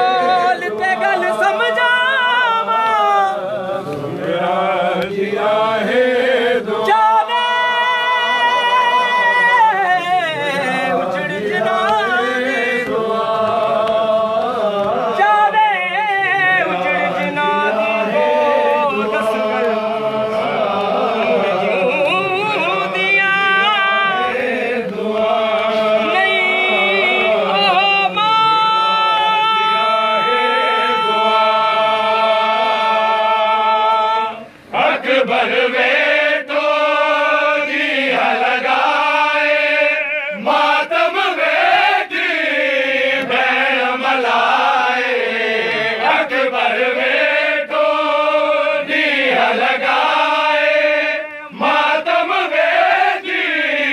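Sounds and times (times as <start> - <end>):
voices chanting a lament: 0.0 - 53.9.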